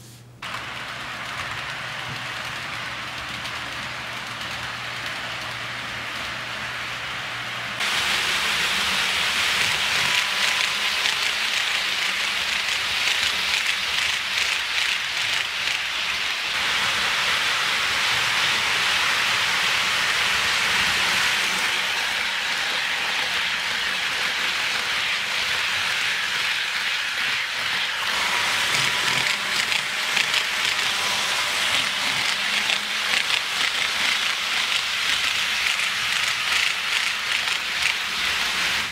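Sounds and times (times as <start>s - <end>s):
model train wheels rattling: 0.4s - 7.0s, 8.0s - 38.9s.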